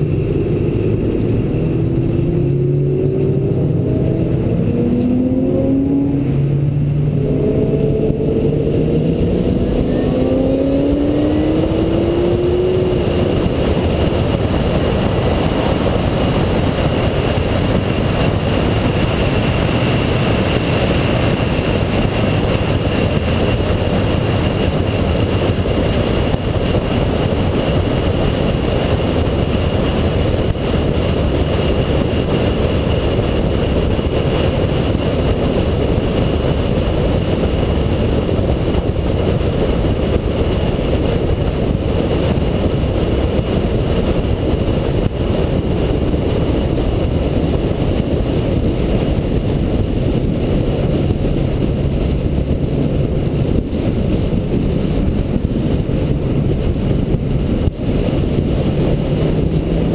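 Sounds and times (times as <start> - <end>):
car engine drone cruising: 0.0 - 59.9
wind and road noise: 0.0 - 59.9.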